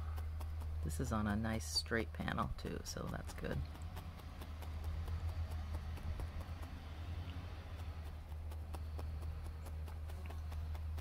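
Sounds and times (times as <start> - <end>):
felting needle ticking: 0.0 - 11.0
steady low hum: 0.0 - 11.0.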